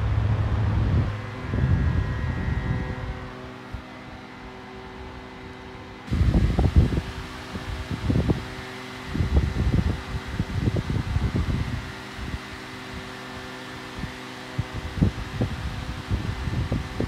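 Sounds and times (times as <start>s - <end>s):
low wind rumbles: 0.0s - 13.1s, 13.9s - 17.0s
desk fans humming and whirring: 0.0s - 17.0s.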